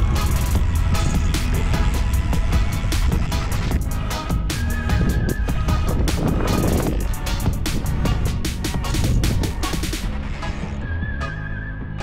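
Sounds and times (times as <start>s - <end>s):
low bass notes: 0.0s - 12.0s.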